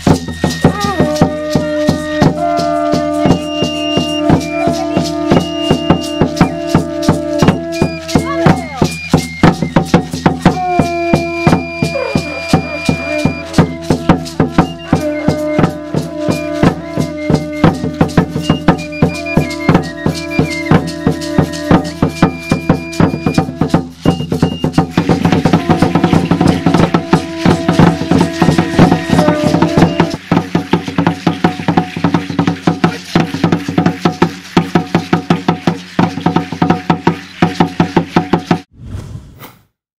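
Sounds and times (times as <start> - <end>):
music with percussion and melody: 0.0 - 38.7.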